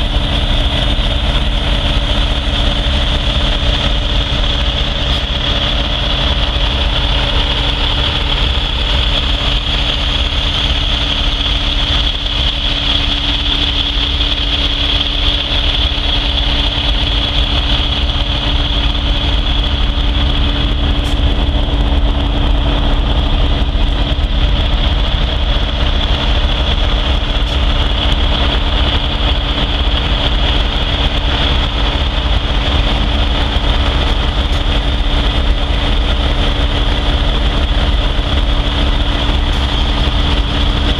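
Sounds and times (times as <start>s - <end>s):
diesel engine idling: 0.0s - 40.9s
high engine whine: 0.0s - 40.9s.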